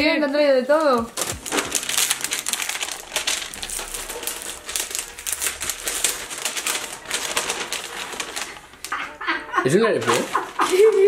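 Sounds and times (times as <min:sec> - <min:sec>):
wrapping paper crinkling: 0:00.1 - 0:11.0.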